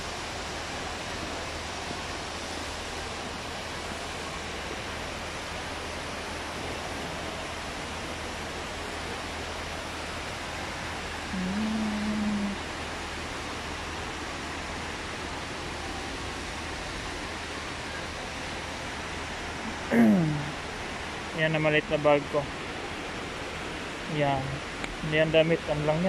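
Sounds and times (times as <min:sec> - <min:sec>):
fountain water splashing: 0:00.0 - 0:26.0
low steady hum: 0:00.0 - 0:26.0.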